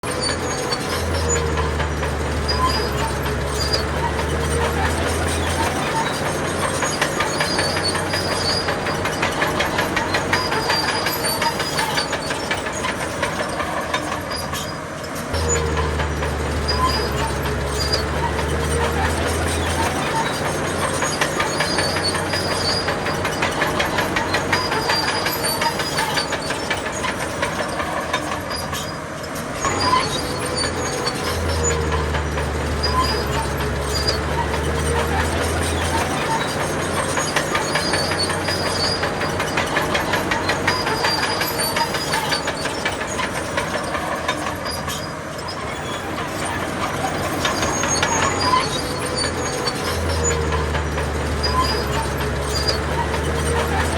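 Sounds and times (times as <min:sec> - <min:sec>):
heavy machinery engine humming: 0:00.0 - 0:53.9
rapid metallic clatter: 0:00.0 - 0:53.9.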